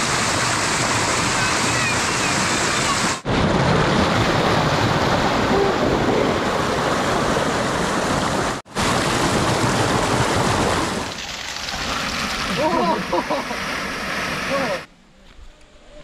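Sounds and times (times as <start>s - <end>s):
waterfall rushing and splashing: 0.0s - 14.9s.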